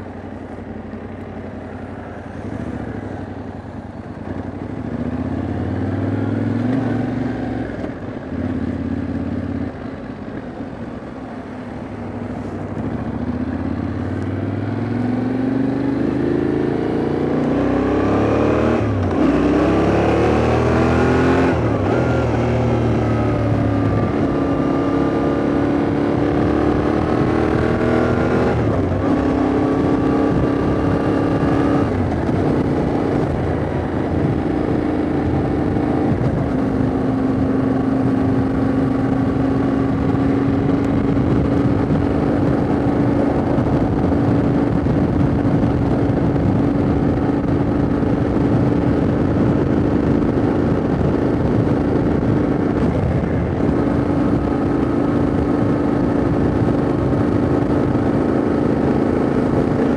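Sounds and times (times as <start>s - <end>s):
motorcycle engine cruising: 0.0s - 59.9s
wind rushing over microphone: 1.7s - 59.9s.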